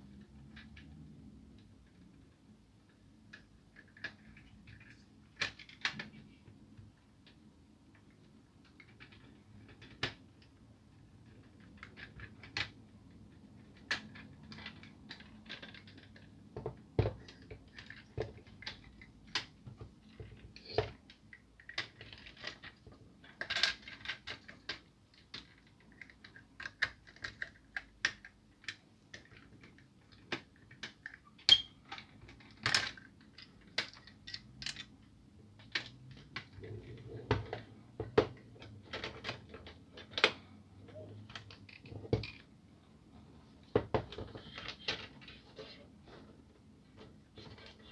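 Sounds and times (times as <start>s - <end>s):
hard plastic parts clicking: 0.2s - 10.6s, 11.2s - 42.6s, 43.6s - 46.3s.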